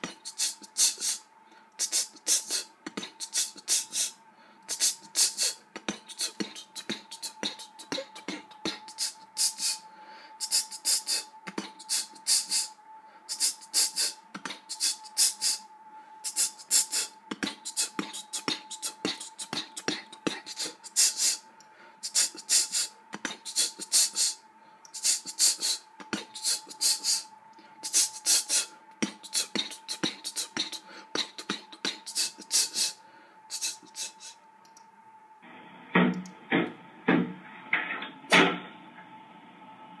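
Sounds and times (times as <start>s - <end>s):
faint high whine: 0.0s - 40.0s.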